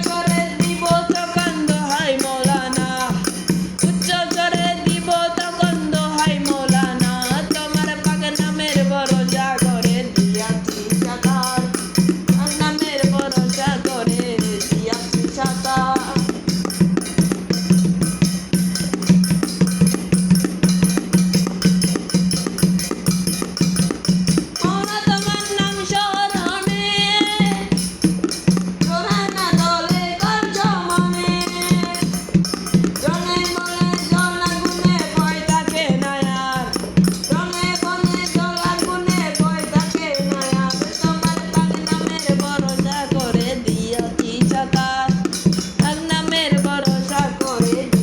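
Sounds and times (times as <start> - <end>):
rattle and tambourine beat: 0.0 - 48.0.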